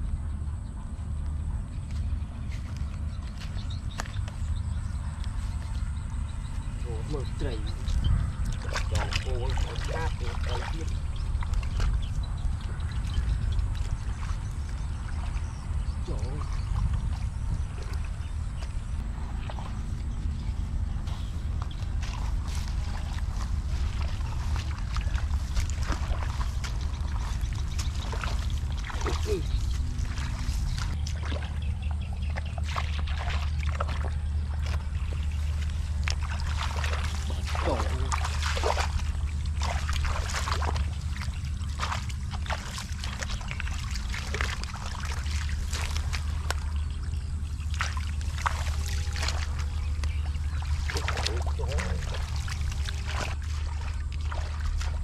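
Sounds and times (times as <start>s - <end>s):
steady low hum: 0.0s - 55.0s
steady low rumble: 0.0s - 55.0s
water splashing and sloshing: 0.0s - 55.0s.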